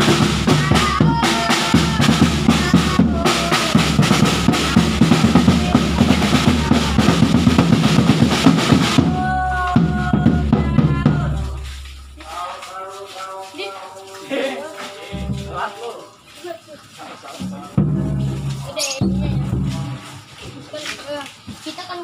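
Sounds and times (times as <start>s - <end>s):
group drumming with bass drum: 0.0s - 16.3s, 17.2s - 20.7s.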